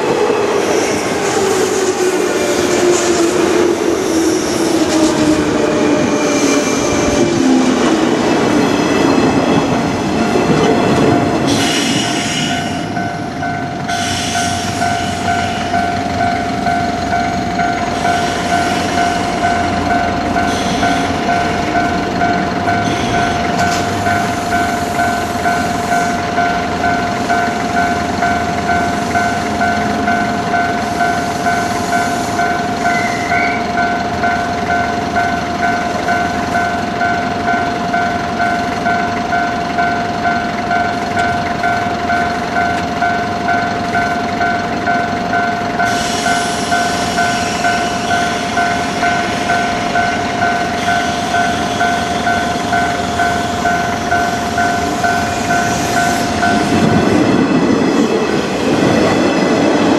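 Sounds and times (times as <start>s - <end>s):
crossing warning bell ringing: 0.0s - 59.9s
train wheels clattering over rails: 0.0s - 59.9s.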